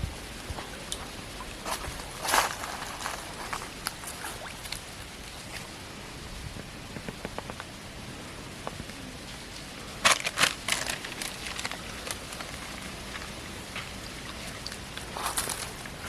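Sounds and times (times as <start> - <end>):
water pattering and splashing: 0.0 - 6.0, 8.7 - 16.0
outdoor background noise: 0.0 - 16.0.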